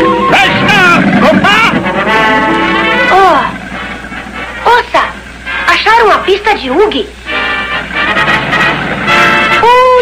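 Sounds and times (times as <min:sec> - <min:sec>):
cartoon music with brassy horns: 0:00.0 - 0:10.0.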